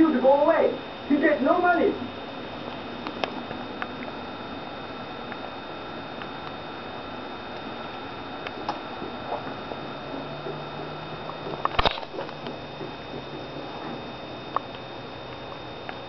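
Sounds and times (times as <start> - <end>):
faint high steady tones: 0.0 - 16.0
low hum: 0.0 - 16.0.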